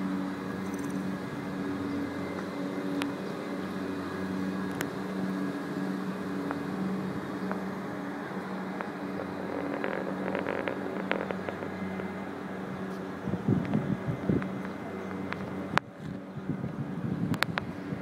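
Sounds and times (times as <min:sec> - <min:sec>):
machine drone with low hum: 0:00.0 - 0:18.0.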